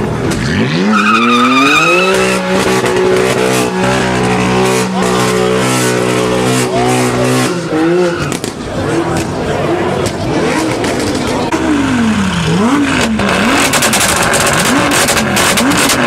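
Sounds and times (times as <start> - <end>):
sports car engine revving: 0.2 - 16.0.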